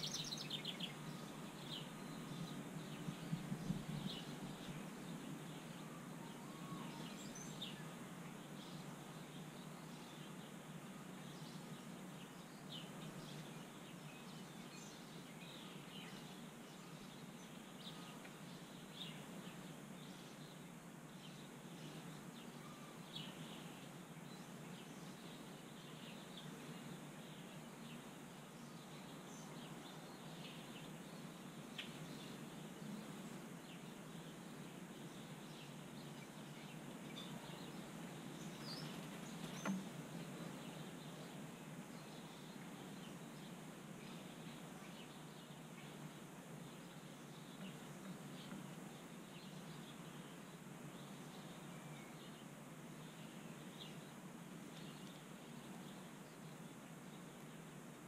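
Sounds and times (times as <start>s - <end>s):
faint bird chirps: 0.0s - 57.6s
steady outdoor hiss: 0.0s - 58.0s.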